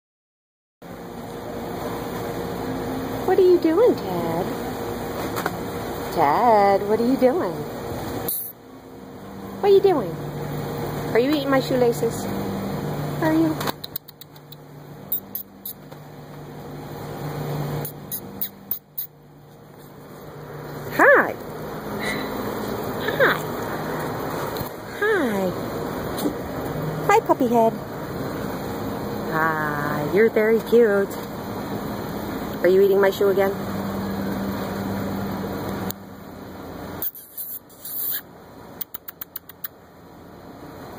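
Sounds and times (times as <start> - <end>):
steady low hum: 0.8 - 40.9.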